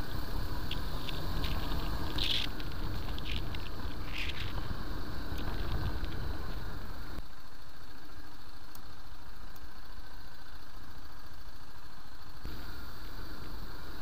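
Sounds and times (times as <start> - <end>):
motorcycle engine rumble: 0.0 - 14.0.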